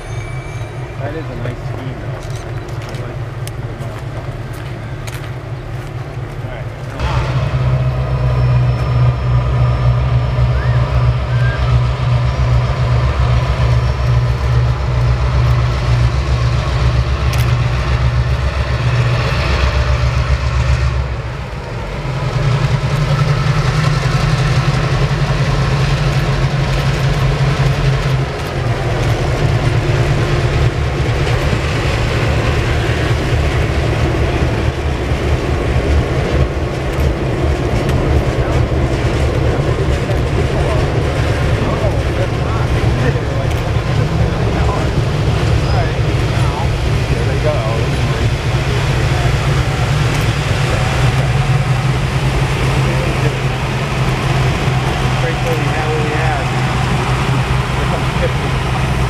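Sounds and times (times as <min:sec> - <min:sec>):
diesel locomotive rumbling: 0:00.0 - 0:59.0
train cars rolling on rails: 0:00.0 - 0:59.0.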